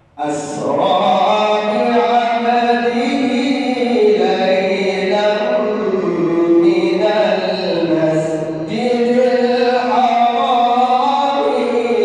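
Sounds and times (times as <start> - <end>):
man chanting melodically: 0.1 - 12.0.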